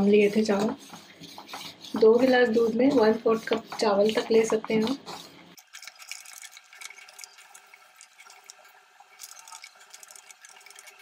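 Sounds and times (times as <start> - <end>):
spoon stirring thick pudding: 0.0 - 11.0
wet sticky bubbling: 0.4 - 11.0.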